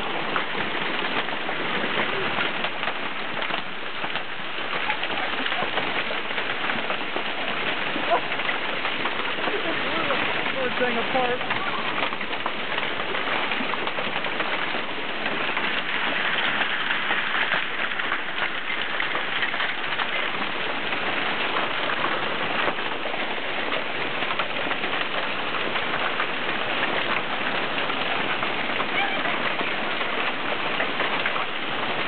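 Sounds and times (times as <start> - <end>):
hail pelting down: 0.0 - 32.0
rain: 0.0 - 32.0.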